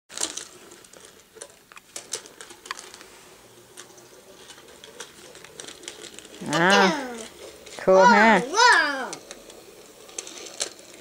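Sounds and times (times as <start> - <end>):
toy train clicking on track: 0.1 - 11.0.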